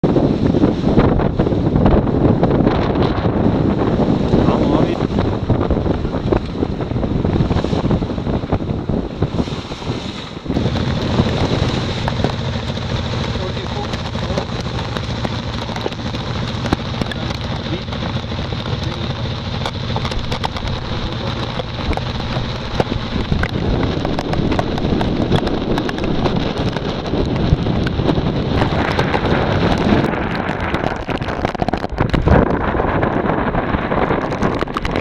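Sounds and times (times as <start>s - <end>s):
boat engine humming: 0.0s - 35.0s
wind buffeting microphone: 0.0s - 35.0s.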